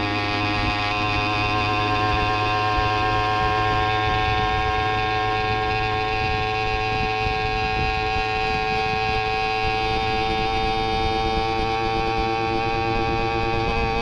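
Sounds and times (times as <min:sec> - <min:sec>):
long held musical chord: 0:00.0 - 0:14.0
low steady rumble: 0:00.0 - 0:14.0.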